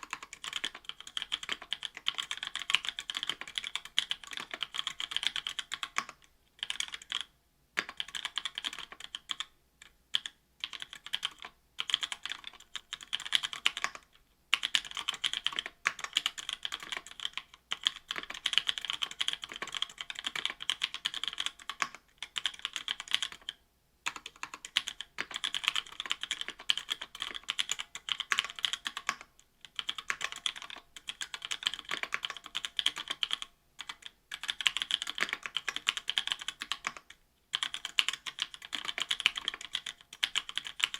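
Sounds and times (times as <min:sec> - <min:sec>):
mechanical keyboard typing: 0:00.0 - 0:09.5, 0:10.1 - 0:40.9.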